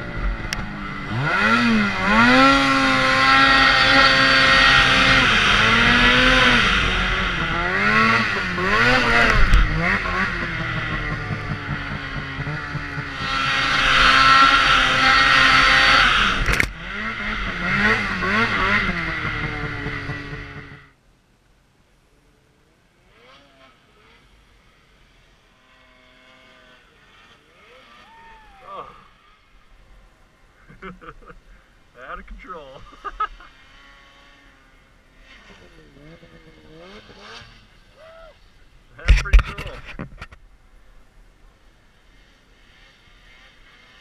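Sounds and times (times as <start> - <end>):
snowmobile engine revving: 0.0 - 20.9, 22.9 - 40.3, 41.4 - 44.0
rush of track and snow: 0.0 - 21.0, 23.0 - 44.0.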